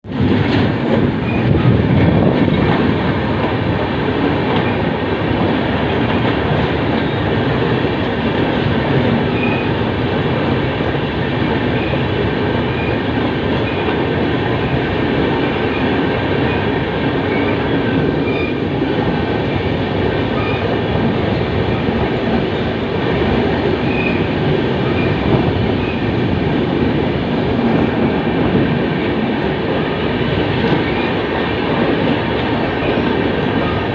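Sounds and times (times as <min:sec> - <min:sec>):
train wheels clattering on rails: 0:00.1 - 0:33.9.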